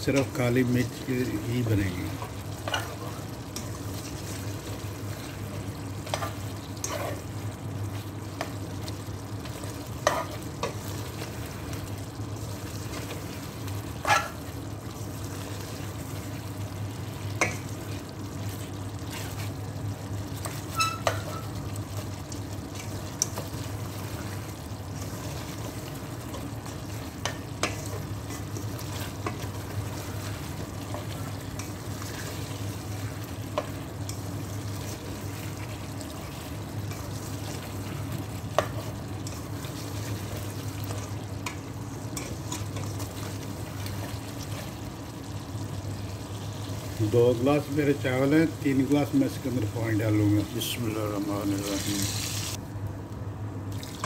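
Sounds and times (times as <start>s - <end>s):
chicken sizzling in a pot: 0.0s - 54.0s.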